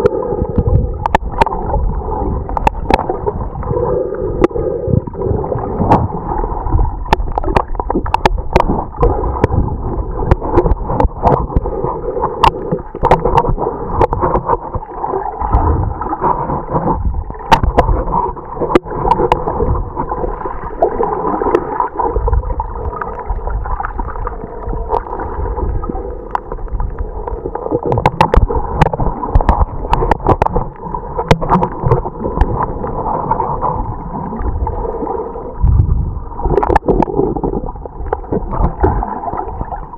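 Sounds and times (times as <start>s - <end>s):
sharp clicks and crackles: 0.0s - 3.8s, 7.0s - 20.9s, 21.5s - 25.4s, 26.2s - 34.8s, 36.5s - 39.8s
low underwater rumble: 0.0s - 39.9s
water gurgling: 0.0s - 39.9s.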